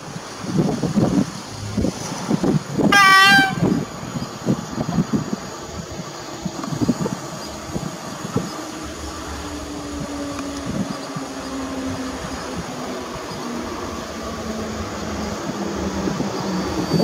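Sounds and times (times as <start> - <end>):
approaching train hum: 0.0 - 17.0.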